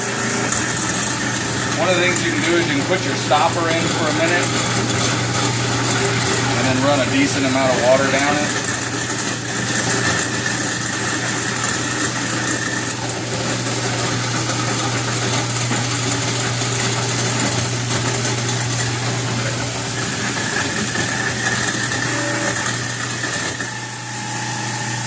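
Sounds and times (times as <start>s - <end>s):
garbage disposal grinding: 0.0s - 25.0s.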